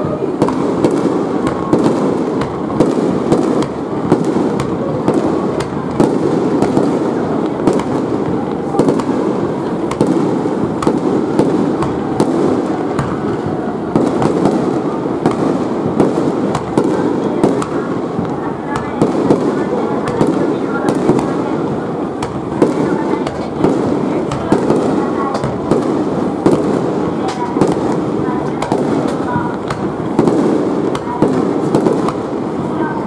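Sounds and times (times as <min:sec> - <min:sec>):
firework bangs and cracks: 0:00.0 - 0:33.0.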